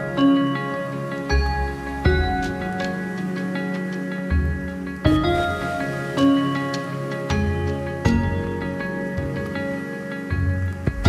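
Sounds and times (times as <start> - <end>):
slow calm instrumental music: 0.0 - 11.0.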